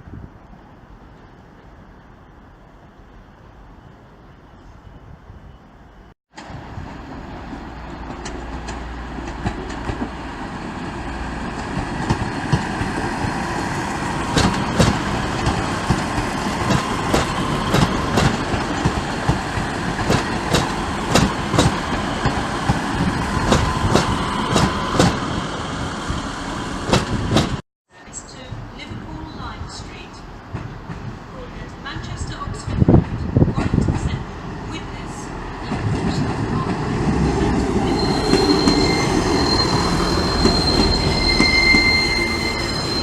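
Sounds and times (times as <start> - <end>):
train rumbling on track: 0.0 - 43.0.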